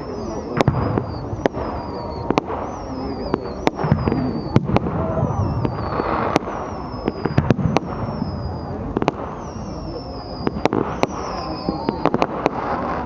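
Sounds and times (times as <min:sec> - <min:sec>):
crowd murmuring: 0:00.0 - 0:13.0
firework whistles gliding down: 0:00.0 - 0:13.0
fireworks bangs: 0:00.0 - 0:13.0.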